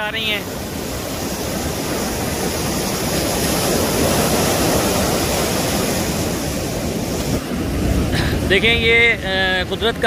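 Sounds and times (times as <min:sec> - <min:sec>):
waves breaking and rushing in: 0:00.0 - 0:10.0.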